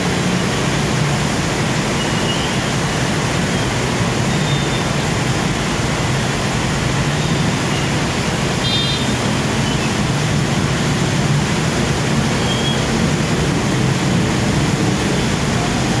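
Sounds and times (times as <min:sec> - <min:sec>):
heavy rain falling: 0:00.0 - 0:16.0
road traffic rumbling: 0:00.0 - 0:16.0.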